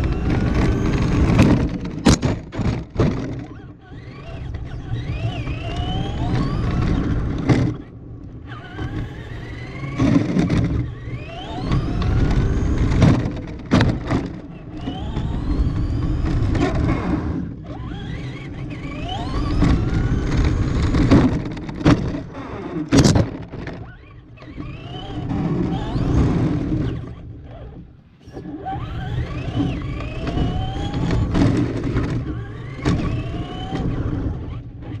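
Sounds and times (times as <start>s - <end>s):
tyres rumbling on concrete: 0.0s - 27.8s, 28.6s - 35.0s
rc car motor whine: 0.0s - 35.0s.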